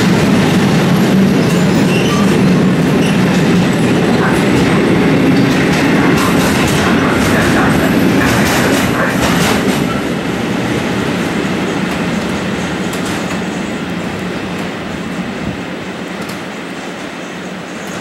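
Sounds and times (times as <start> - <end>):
train wheels clattering: 0.0 - 14.8.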